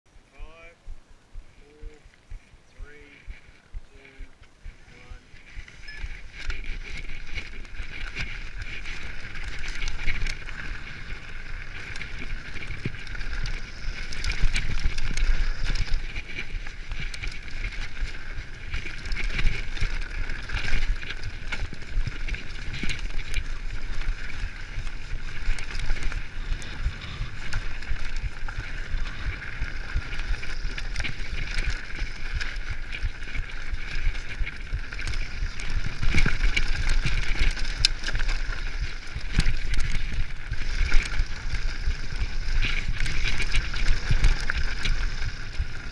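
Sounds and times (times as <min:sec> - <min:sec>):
bike knocking and rattling: 0:03.3 - 0:45.9
tyres crunching over dirt and stones: 0:05.6 - 0:45.9.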